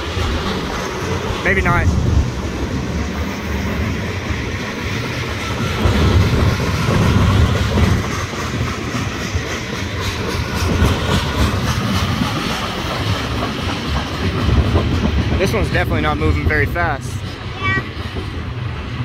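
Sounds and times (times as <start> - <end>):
freight train rumbling past: 0.0 - 19.0
wheels clicking over rail joints: 0.0 - 19.0.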